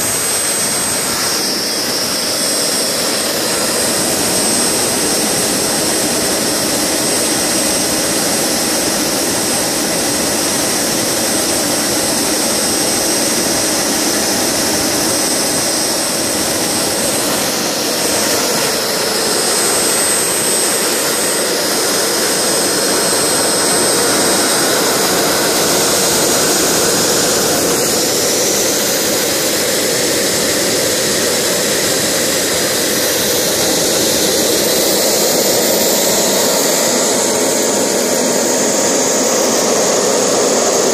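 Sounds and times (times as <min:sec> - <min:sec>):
gas turbine generator running: 0:00.0 - 0:40.9.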